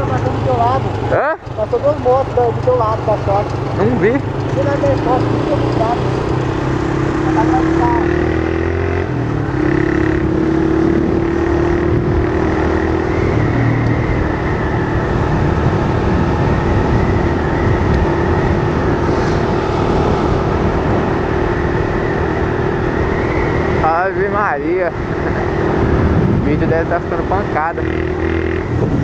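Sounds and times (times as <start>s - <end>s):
motorcycle engine cruising: 0.0s - 29.0s
wind noise: 2.9s - 29.0s.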